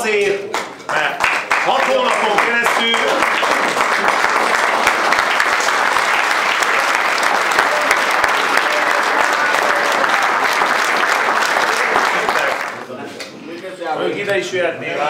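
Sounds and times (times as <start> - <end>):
people applauding: 0.0 - 12.9.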